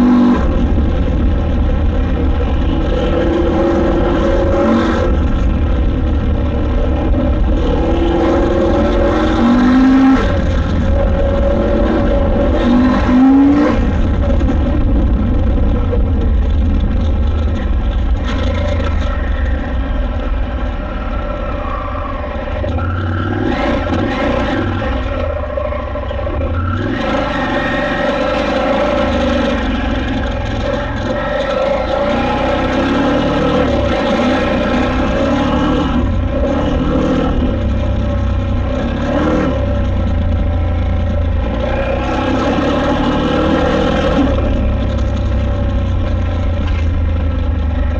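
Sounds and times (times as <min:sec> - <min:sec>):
motorcycle engine running under load: 0:00.0 - 0:47.9.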